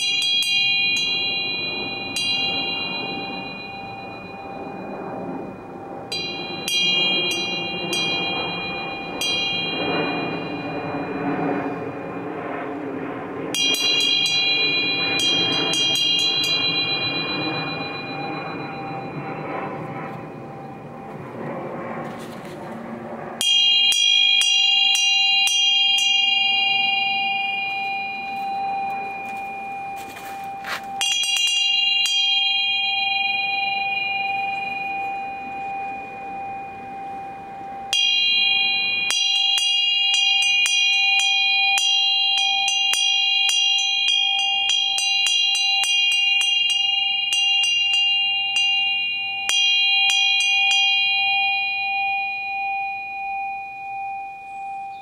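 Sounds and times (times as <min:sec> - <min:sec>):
bell ringing: 0:00.0 - 0:22.0, 0:23.4 - 0:55.0.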